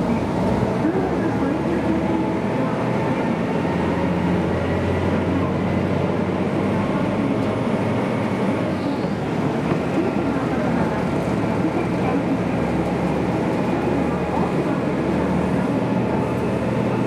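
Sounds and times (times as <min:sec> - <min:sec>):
train engine and wheels drone: 0:00.0 - 0:17.0.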